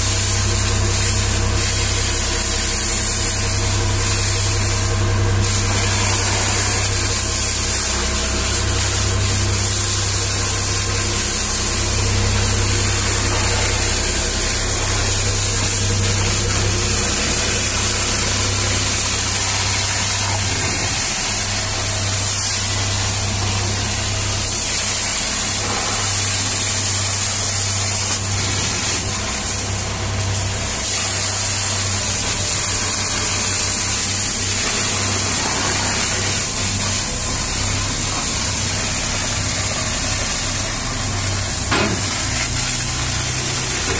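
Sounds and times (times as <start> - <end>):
pump machinery drone: 0.0 - 43.9
water jet hissing and splashing: 0.0 - 43.9.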